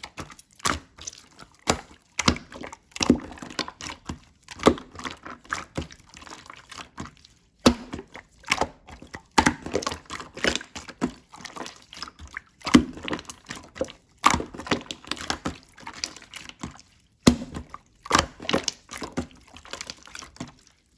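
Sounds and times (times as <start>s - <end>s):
slime squished by hand: 0.0s - 20.9s.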